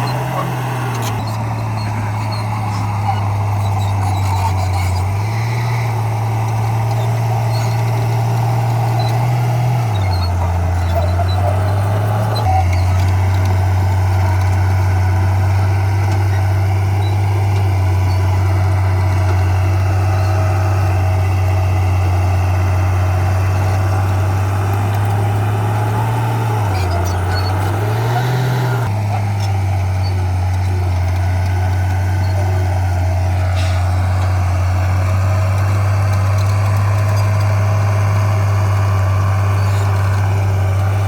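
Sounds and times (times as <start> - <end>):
diesel engine of heavy machinery: 0.0 - 41.0.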